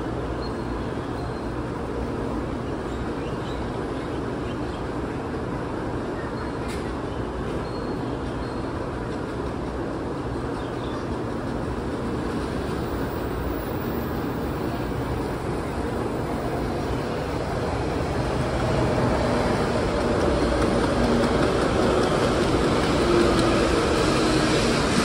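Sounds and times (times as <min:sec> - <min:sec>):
electric train pulling into station: 0:00.0 - 0:25.0.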